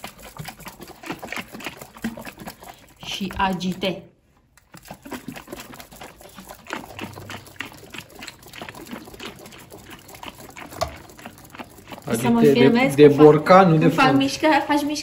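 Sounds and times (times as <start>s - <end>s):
milk sloshing in shaken jar: 0.0s - 15.0s.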